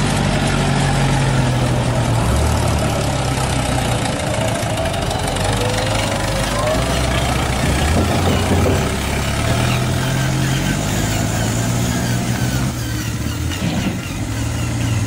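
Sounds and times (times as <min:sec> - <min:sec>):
toy truck engine-like drone: 0:00.0 - 0:15.0.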